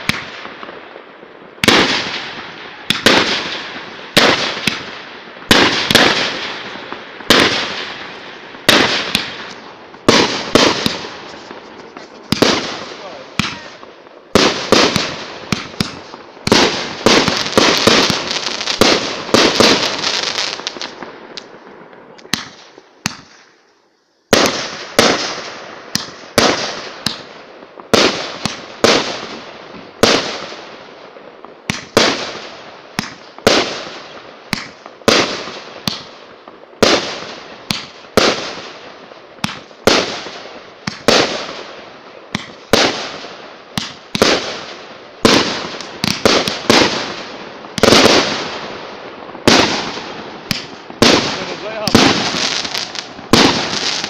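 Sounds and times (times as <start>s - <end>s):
small fireworks pops: 0.0s - 0.8s, 1.6s - 23.6s, 24.3s - 29.4s, 31.4s - 38.8s, 39.4s - 41.7s, 42.3s - 48.5s, 49.2s - 54.0s
fireworks bangs echoing: 0.0s - 23.6s, 24.3s - 54.0s.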